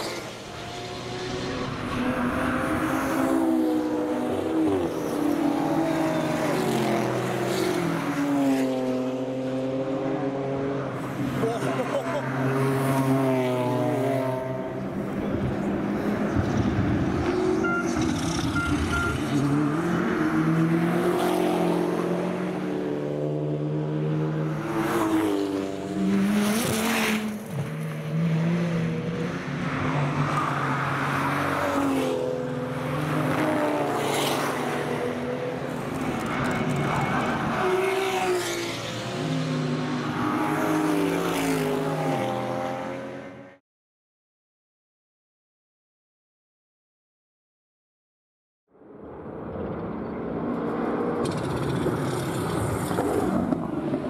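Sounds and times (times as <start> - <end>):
cars passing by: 0.0 - 43.6, 48.8 - 54.0
racing car engines revving: 0.0 - 43.6.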